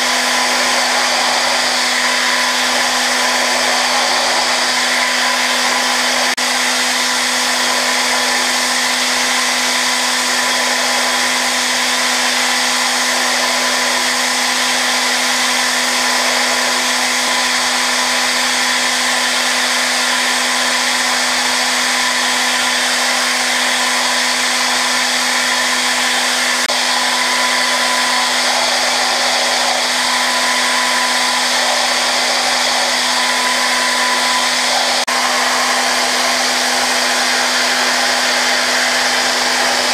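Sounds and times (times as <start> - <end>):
machine spindle whine: 0.0 - 39.9.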